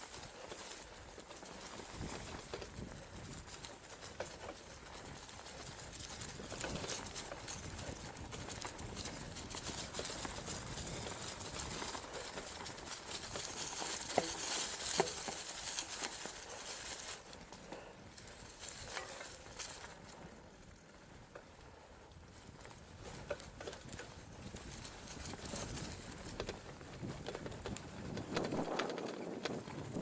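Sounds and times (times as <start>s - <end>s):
bike rattles and clicks: 0.0s - 30.0s
bike tyres crunching on dirt: 0.0s - 30.0s.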